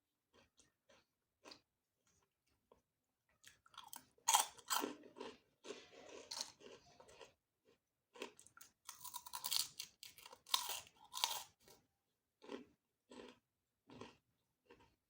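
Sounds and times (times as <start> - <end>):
crunchy food being chewed: 0.2 - 15.0.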